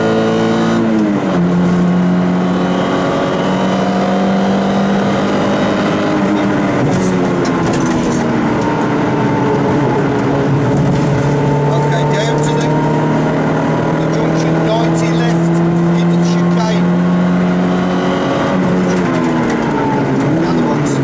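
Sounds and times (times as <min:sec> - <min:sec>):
rally car engine from inside cabin: 0:00.0 - 0:21.0.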